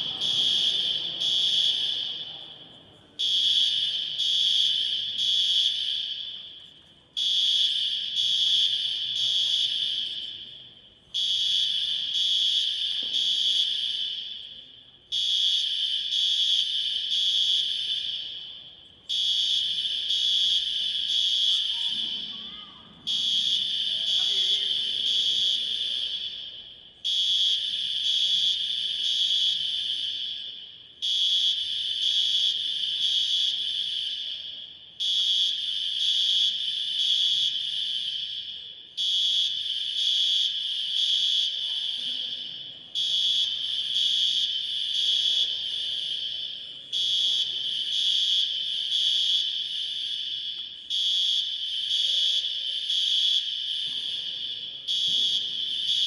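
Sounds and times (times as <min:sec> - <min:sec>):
smoke alarm beeping: 0:00.0 - 0:56.0.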